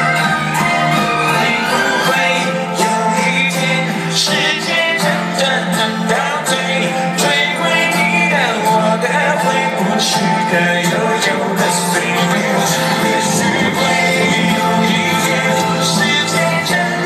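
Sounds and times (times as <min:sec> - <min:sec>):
live band playing with singing: 0:00.0 - 0:17.0.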